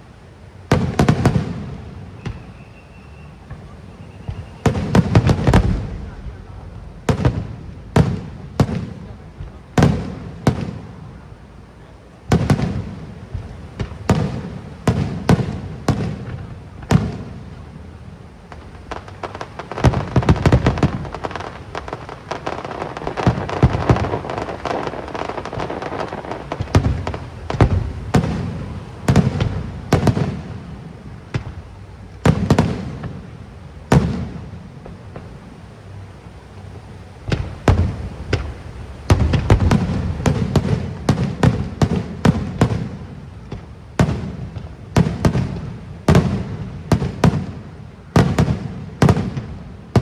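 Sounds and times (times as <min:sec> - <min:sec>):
fireworks booming: 0:00.0 - 0:50.0
fireworks crackling: 0:00.0 - 0:50.0.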